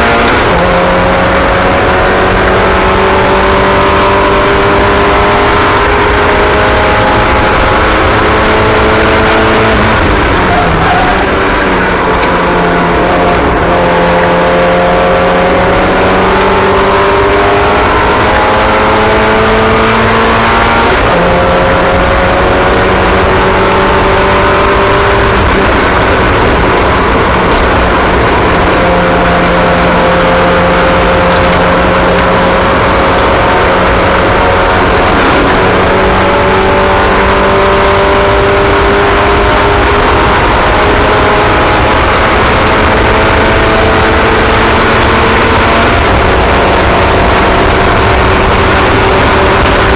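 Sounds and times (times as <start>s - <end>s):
race car engines: 0.0s - 49.9s.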